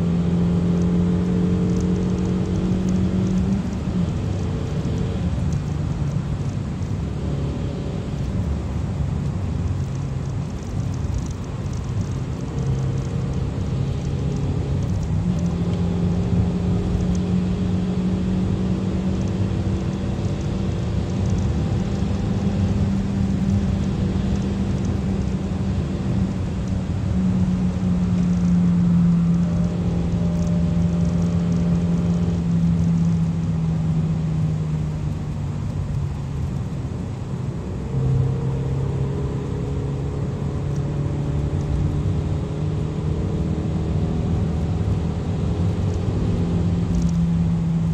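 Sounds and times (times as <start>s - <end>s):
tyre and road noise: 0.0s - 47.9s.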